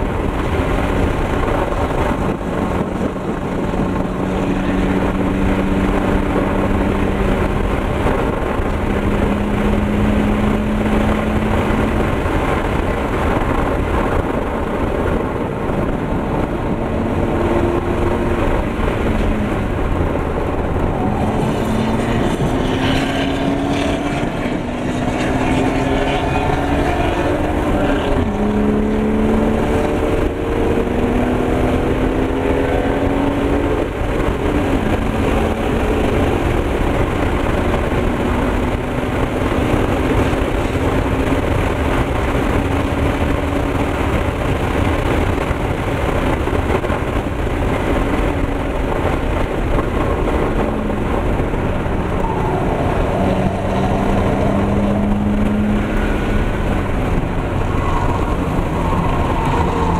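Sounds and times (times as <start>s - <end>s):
car engine revving: 0.0s - 59.9s
wind and road noise: 0.0s - 59.9s.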